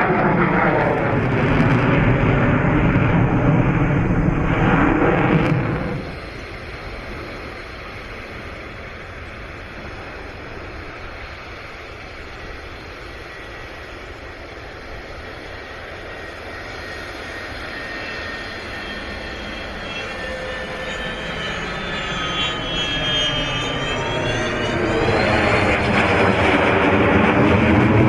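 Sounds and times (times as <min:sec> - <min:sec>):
aircraft engine roar: 0:00.0 - 0:28.0
faint high whine: 0:03.3 - 0:26.8.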